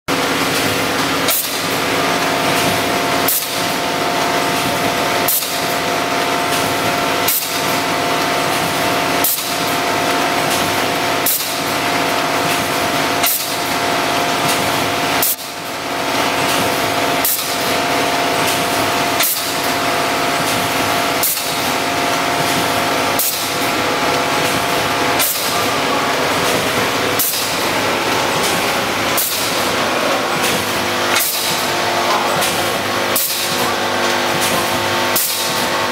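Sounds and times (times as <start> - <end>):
machine humming: 0.1 - 35.9.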